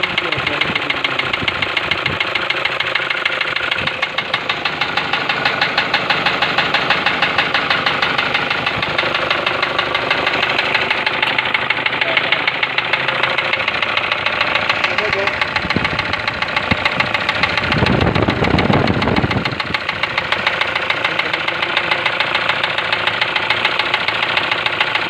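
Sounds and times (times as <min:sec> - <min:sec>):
diesel engine running: 0:00.0 - 0:25.0
diesel injector knock: 0:00.0 - 0:25.0.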